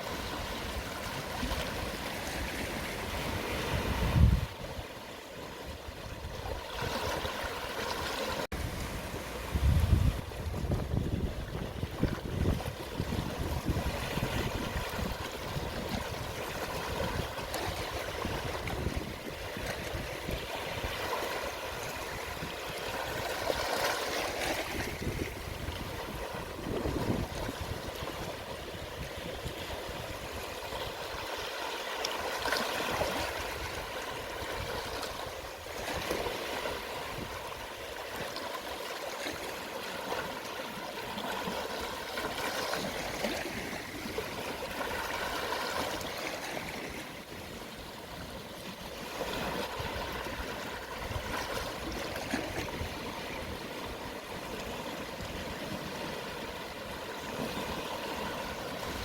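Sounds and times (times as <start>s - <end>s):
gentle waves washing over shore: 0.0s - 59.0s.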